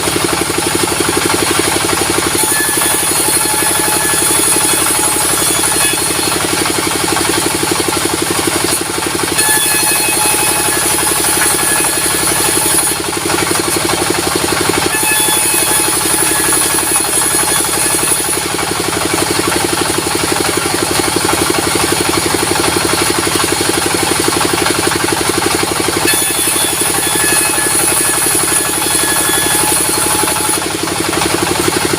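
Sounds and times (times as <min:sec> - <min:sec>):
sawmill engine beat: 0:00.0 - 0:31.9.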